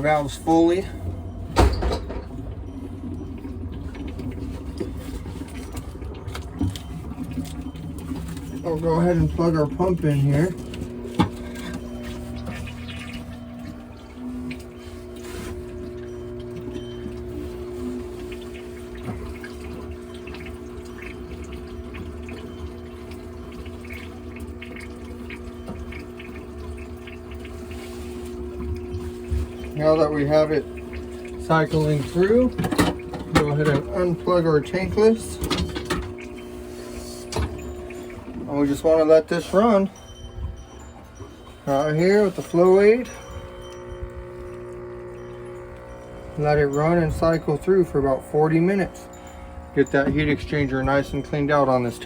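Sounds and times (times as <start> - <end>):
small pump humming: 0.0 - 52.0
water trickling into bucket: 0.0 - 52.0.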